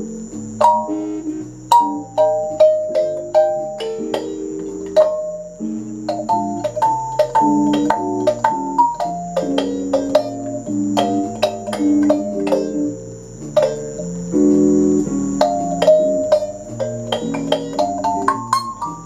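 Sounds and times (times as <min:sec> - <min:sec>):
kalimba melody: 0:00.0 - 0:19.0.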